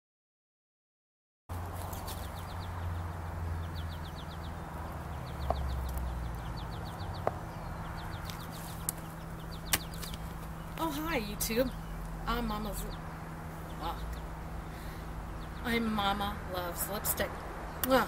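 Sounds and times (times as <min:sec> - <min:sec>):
steady low hum: 0:01.5 - 0:18.0
small bird high chirps: 0:01.8 - 0:18.0.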